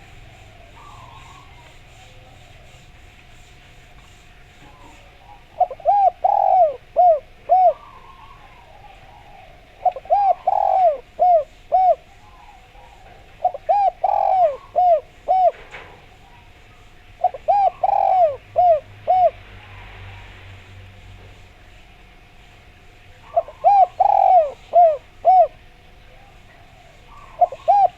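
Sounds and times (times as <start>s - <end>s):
dove cooing: 0.0s - 20.0s, 23.1s - 27.9s.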